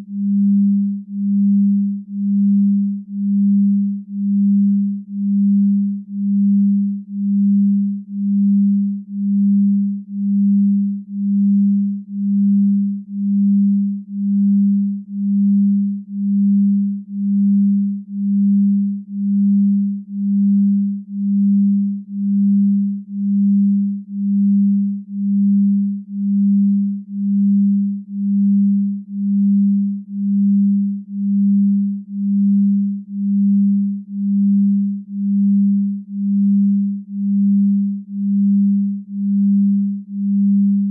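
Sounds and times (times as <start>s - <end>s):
pulsing low electronic tone: 0.0s - 40.9s.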